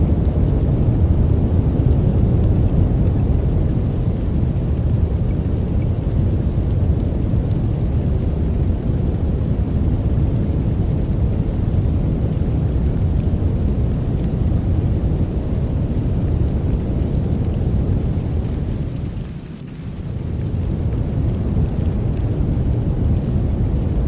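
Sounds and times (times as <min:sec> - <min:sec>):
deep steady noise: 0:00.0 - 0:19.3.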